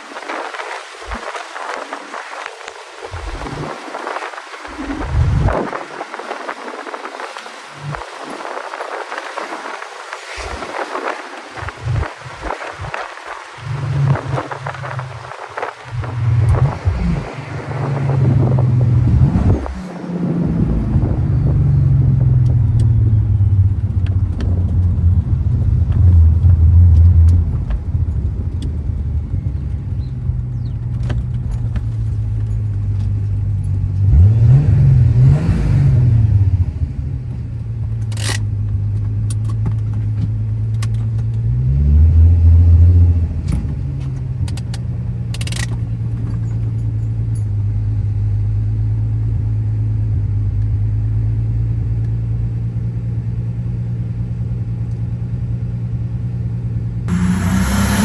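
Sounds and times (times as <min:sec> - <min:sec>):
car engine and exhaust revving: 0:00.0 - 0:58.0.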